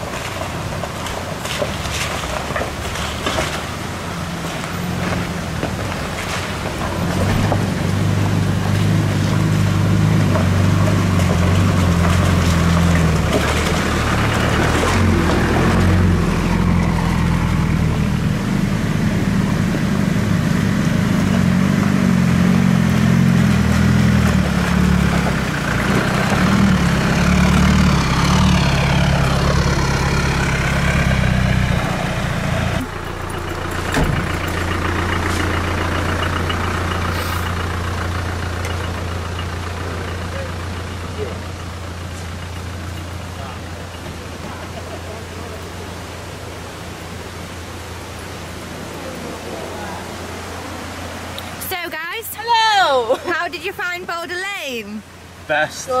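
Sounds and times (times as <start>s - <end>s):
vehicle engine running at low revs: 0.0s - 51.7s
engine idling: 0.0s - 54.0s.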